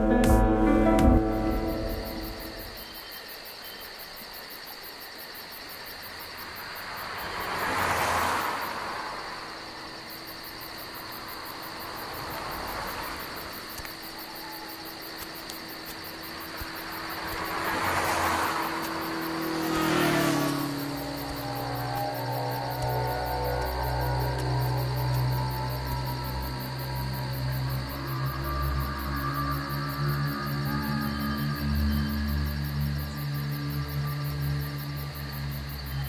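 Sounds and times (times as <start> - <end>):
vehicles passing: 0.0 - 3.0, 6.0 - 36.0
crickets chirring: 0.8 - 36.0.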